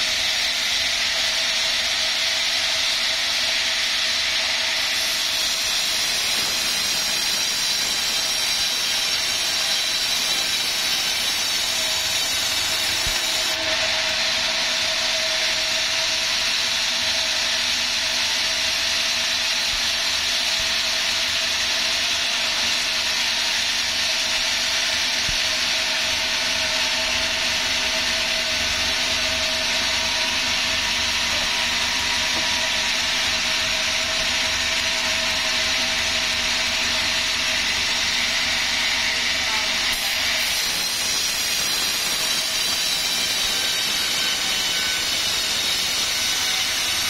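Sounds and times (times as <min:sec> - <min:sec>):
sawmill saw running: 0:00.0 - 0:47.0.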